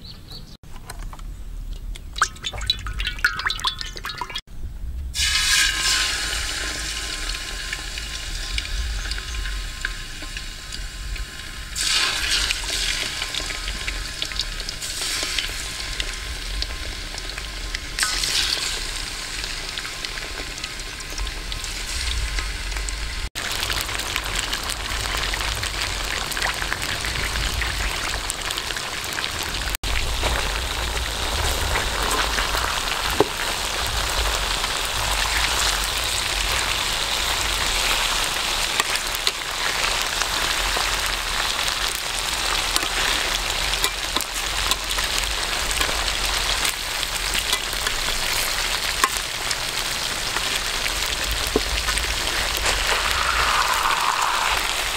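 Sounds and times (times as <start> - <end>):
oil sizzling in a wok: 5.1 - 54.9.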